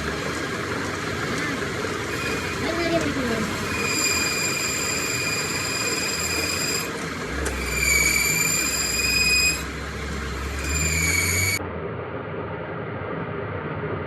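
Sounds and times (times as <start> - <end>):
low machine hum: 0.0 - 11.6
machine tool cutting metal whine: 0.0 - 11.6.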